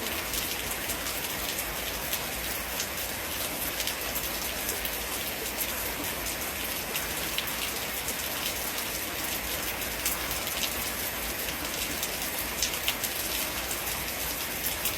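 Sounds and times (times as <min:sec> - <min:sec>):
steady rain: 0:00.0 - 0:14.9.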